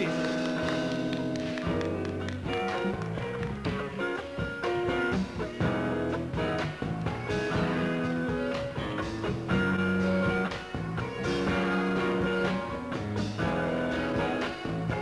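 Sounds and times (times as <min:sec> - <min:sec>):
funk band playing live: 0:00.0 - 0:15.0.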